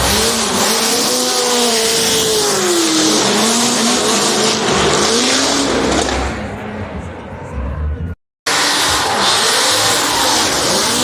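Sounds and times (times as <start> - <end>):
car engine at high revs: 0.0 - 7.3, 8.0 - 11.0.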